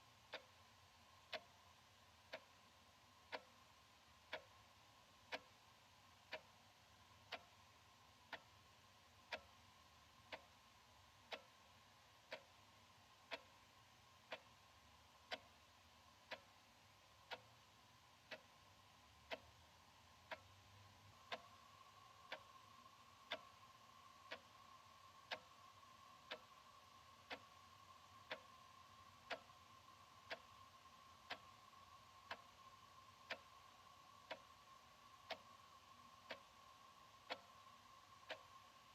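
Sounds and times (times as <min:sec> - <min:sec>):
wall clock ticking: 0:00.0 - 0:38.9.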